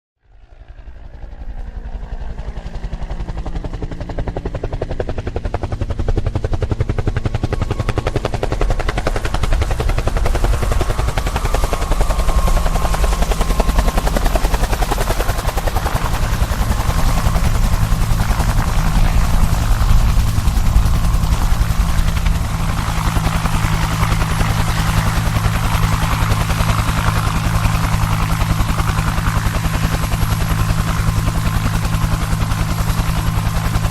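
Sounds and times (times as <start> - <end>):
low engine drone: 0.2 - 33.9
helicopter rotor chop: 0.3 - 33.9.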